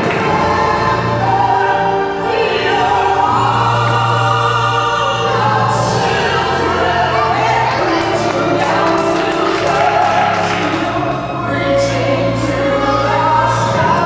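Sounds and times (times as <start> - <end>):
gospel ballad singing: 0.0 - 14.0.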